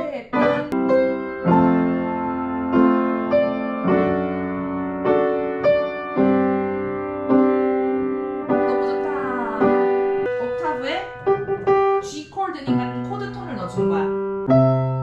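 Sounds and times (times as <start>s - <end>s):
piano playing slow chords: 0.3s - 15.0s.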